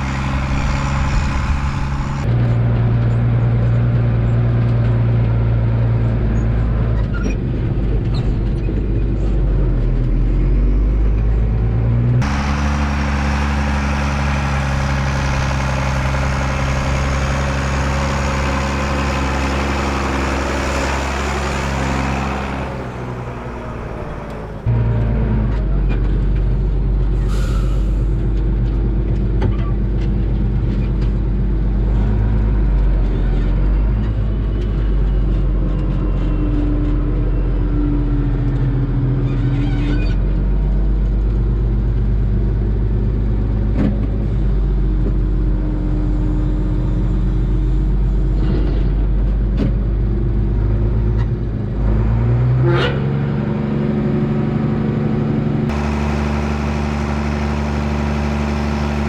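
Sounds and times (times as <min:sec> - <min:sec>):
diesel farm machinery running: 0:00.0 - 0:39.4, 0:40.1 - 0:59.0.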